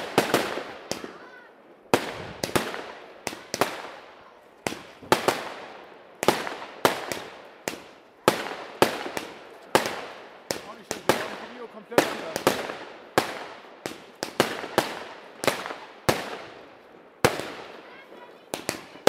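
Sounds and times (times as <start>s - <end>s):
firework bangs echoing: 0.0s - 19.0s.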